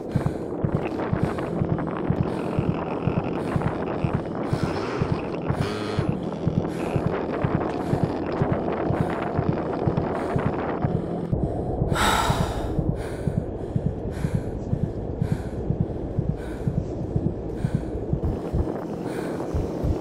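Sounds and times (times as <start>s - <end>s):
low rumble with rapid thumps: 0.0s - 20.0s
person breathing hard and gasping: 0.0s - 20.0s.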